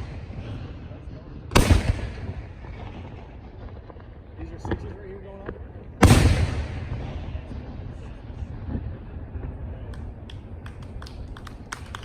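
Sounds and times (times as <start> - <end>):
firework burst echo: 0.0 - 11.7
low rumble: 0.0 - 12.0.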